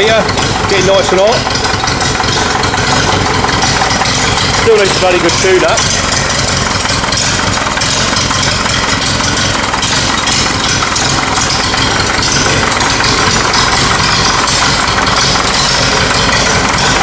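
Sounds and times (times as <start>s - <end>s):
tractor engine ticking over: 0.0s - 17.0s.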